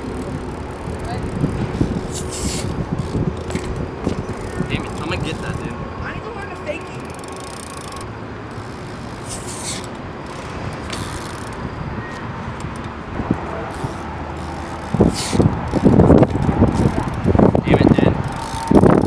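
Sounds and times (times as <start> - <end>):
bike tyres rolling on concrete: 0.0 - 5.8, 6.4 - 19.0
wind rumbling on microphone: 0.0 - 19.0.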